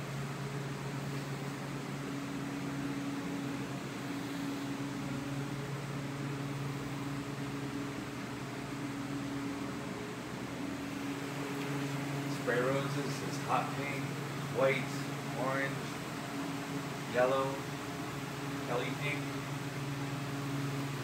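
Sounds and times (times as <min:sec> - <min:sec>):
refrigeration unit fan hum: 0:00.0 - 0:21.0.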